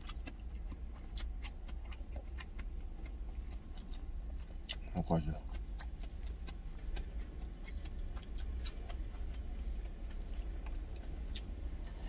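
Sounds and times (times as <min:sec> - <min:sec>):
chewing with clicks and smacks: 0:00.0 - 0:12.0
steady low rumble: 0:00.0 - 0:12.0.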